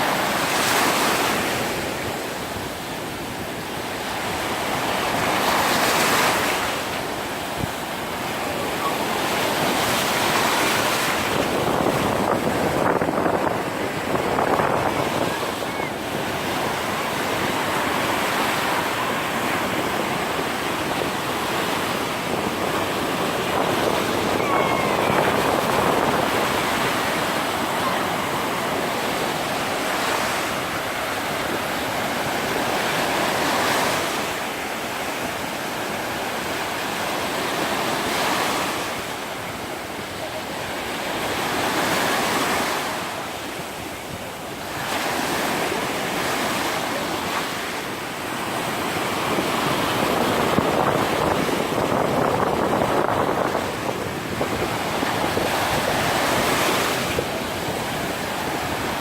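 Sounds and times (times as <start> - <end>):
wind on microphone: 0.0 - 39.7, 41.2 - 59.0
surf washing onto beach: 0.0 - 59.0.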